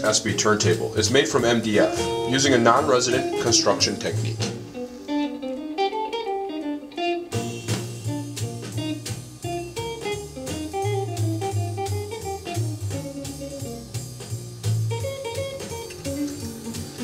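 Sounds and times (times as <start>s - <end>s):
bass line: 0.0s - 4.8s, 7.3s - 17.0s
drums: 0.0s - 5.3s, 7.2s - 17.0s
plucked guitar melody: 0.0s - 17.0s.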